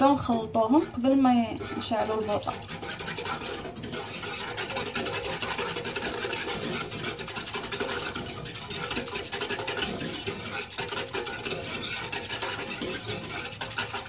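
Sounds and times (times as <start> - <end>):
whisk scraping a saucepan: 0.0 - 14.0.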